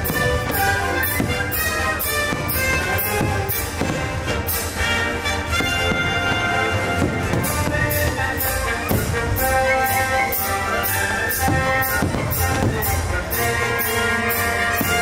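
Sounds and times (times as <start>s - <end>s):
orchestral music with brass: 0.0s - 15.0s
steady beat of sharp hits: 0.0s - 15.0s.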